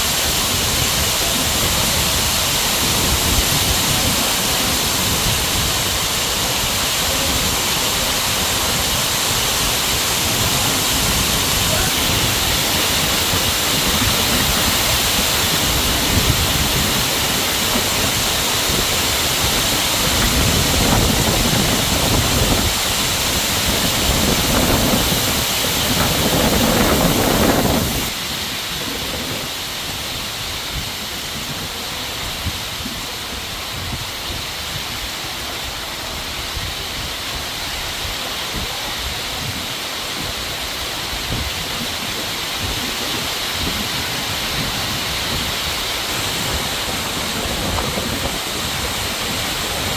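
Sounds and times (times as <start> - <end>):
heavy rain hissing: 0.0 - 49.9.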